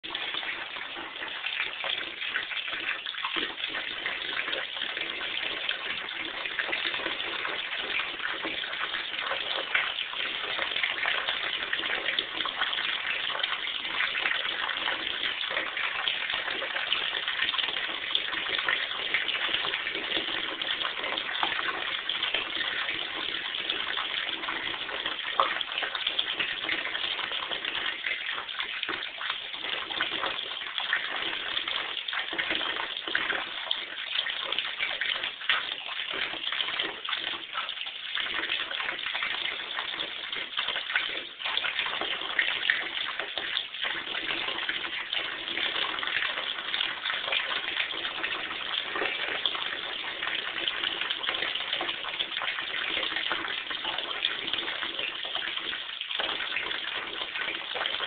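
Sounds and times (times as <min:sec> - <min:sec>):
small water splashes: 0:00.0 - 0:58.0
water running into a bathtub: 0:00.0 - 0:58.0.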